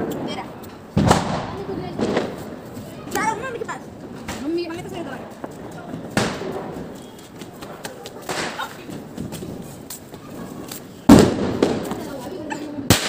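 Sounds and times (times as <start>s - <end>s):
firecracker bangs: 0.0s - 13.0s.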